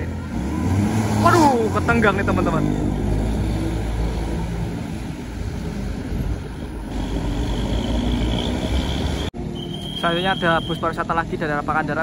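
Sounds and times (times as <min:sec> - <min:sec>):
bus engine rumble: 0:00.0 - 0:12.0
tyres on road: 0:00.0 - 0:12.0.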